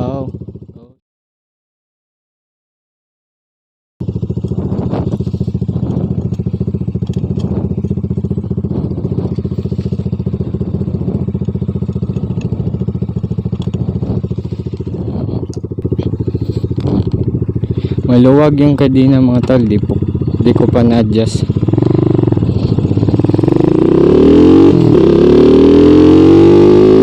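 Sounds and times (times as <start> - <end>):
motorcycle engine idling: 0.0 - 1.0, 4.0 - 25.2.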